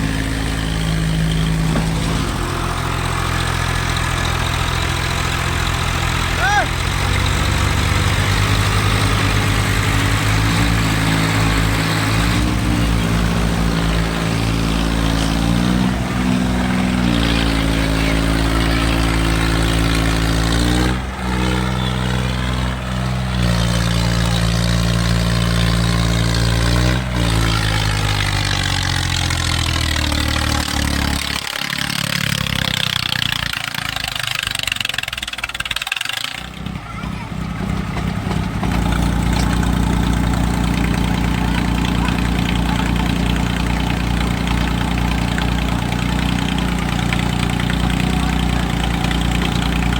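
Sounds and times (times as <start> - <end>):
tractor diesel engine revving: 0.0 - 49.9.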